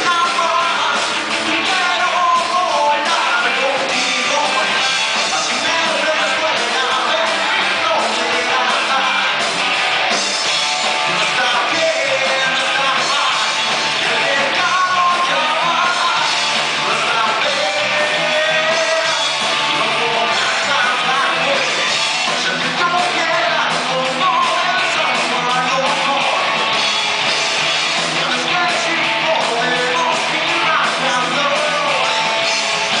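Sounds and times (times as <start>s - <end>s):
person singing: 0.0s - 9.4s, 11.2s - 26.5s, 28.0s - 32.3s
rock band playing live: 0.0s - 33.0s.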